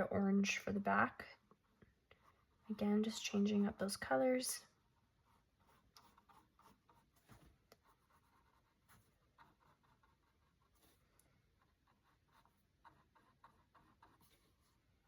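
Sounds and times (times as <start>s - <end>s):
paintbrush scratching on canvas: 1.6s - 4.0s, 4.8s - 15.0s.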